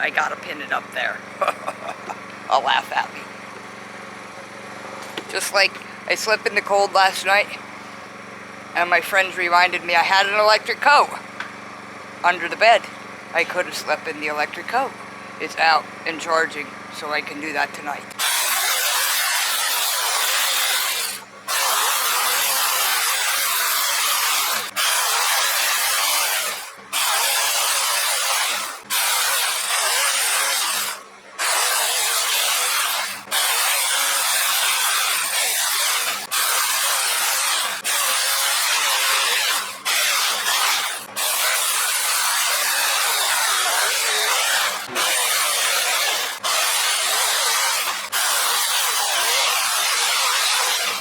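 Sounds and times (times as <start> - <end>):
electric chainsaw cutting wood: 0.0 - 51.0.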